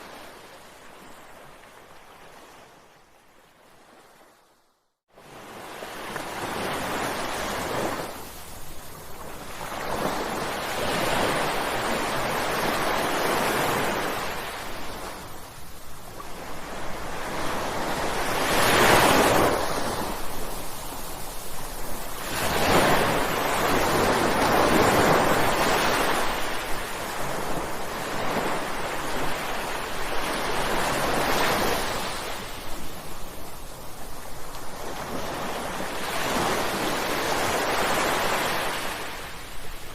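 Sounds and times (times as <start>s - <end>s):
ocean waves crashing: 0.0s - 2.8s, 5.2s - 39.9s.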